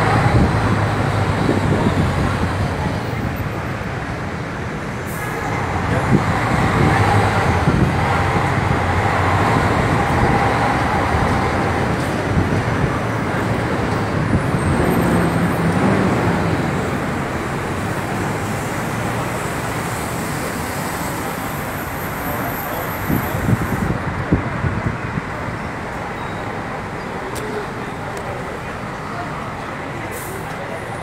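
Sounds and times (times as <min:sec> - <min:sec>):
bus engine: 0:00.0 - 0:31.0
street traffic rumble: 0:00.0 - 0:31.0.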